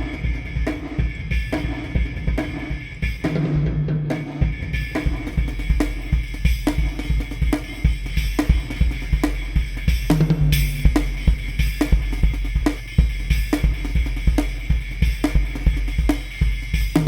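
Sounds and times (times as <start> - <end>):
programmed drum beat: 0.0 - 17.0.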